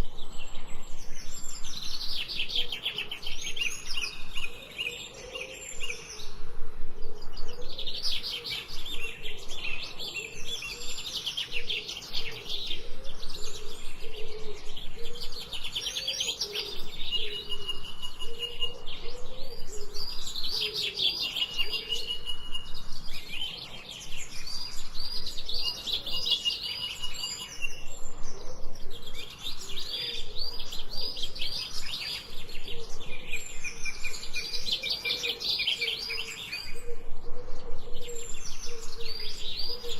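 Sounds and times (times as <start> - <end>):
birds chirping in trills: 7.4 - 39.9.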